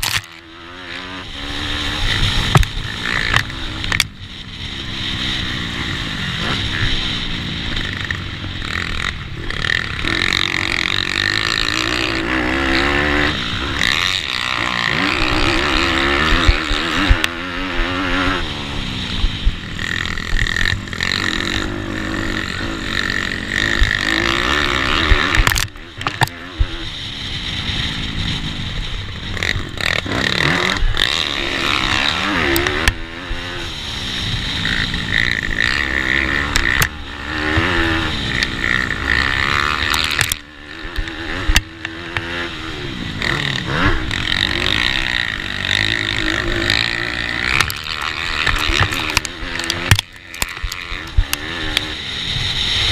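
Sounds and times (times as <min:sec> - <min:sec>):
pitbike engines revving: 0:00.0 - 0:52.9.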